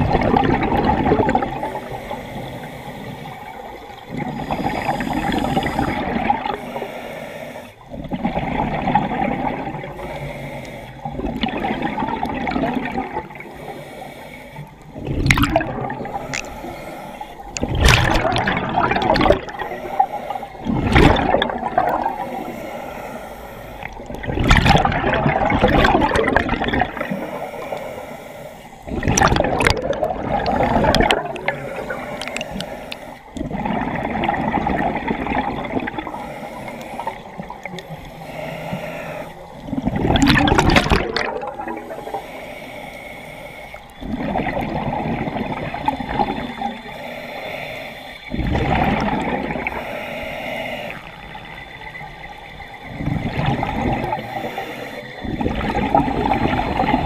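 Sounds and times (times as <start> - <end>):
exhaled bubbles gurgling: 0.0 - 28.1, 28.8 - 57.0
scuba regulator hissing inhalation: 1.5 - 8.0, 9.0 - 11.7, 12.6 - 24.4, 25.6 - 57.0.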